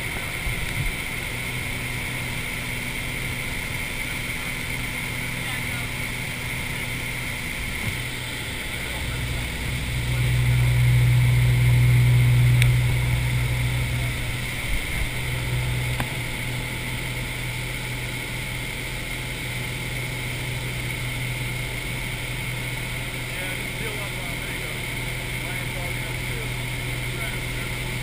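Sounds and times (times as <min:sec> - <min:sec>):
small plane engine droning: 0:00.0 - 0:28.0.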